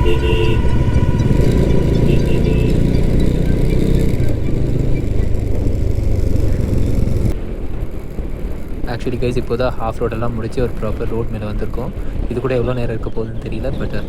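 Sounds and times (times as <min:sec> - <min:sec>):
motorcycle engine rumble: 0:00.0 - 0:13.6
road noise: 0:00.0 - 0:14.0.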